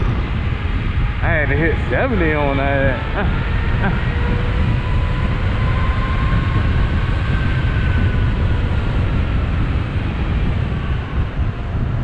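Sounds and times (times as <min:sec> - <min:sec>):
faint high whine: 0:00.0 - 0:12.0
wind rushing over microphone: 0:00.0 - 0:12.0.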